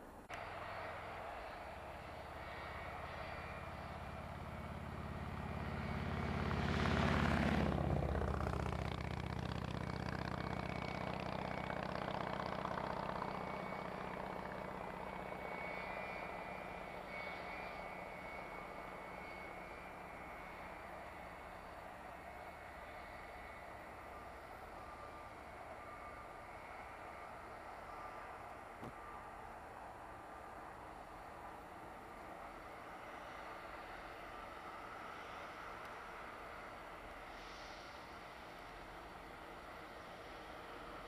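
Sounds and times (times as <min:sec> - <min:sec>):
jet engines rumbling: 0:00.0 - 0:41.0.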